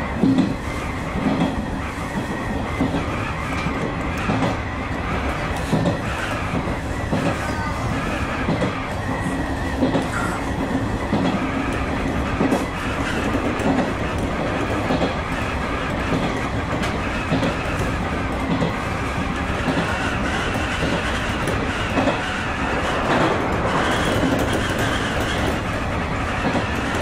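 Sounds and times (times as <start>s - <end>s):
train wheels rumbling on rail: 0.0s - 27.0s
wheels clicking over rail joints: 0.2s - 8.9s, 9.8s - 27.0s.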